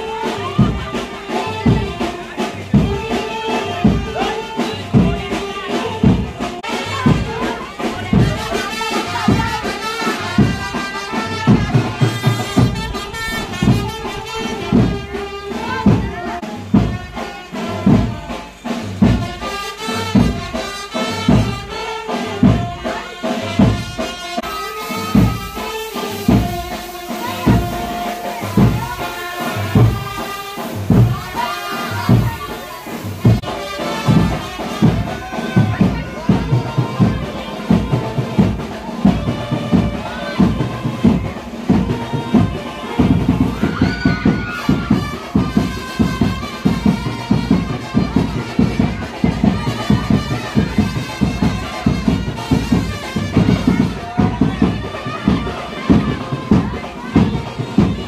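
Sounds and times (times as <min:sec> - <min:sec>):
brass band music: 0:00.0 - 0:58.0.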